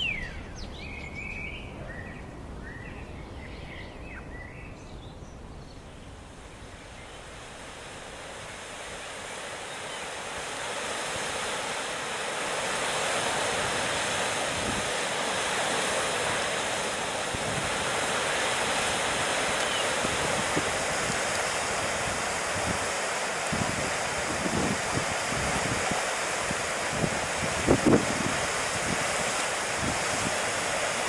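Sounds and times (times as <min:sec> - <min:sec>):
churning water rushing: 0:05.9 - 0:31.0.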